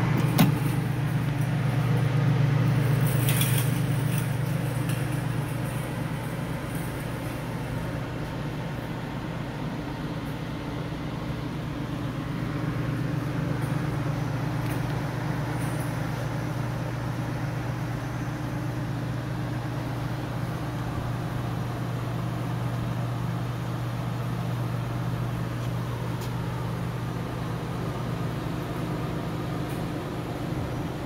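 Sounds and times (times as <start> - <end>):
oven fans and motors humming: 0.0 - 31.0.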